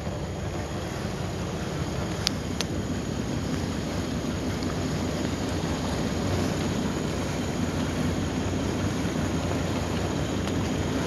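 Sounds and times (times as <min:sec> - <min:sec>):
boat engine hum: 0:00.0 - 0:11.0
water rushing along hull: 0:00.0 - 0:11.0
wind buffeting microphone: 0:00.0 - 0:11.0.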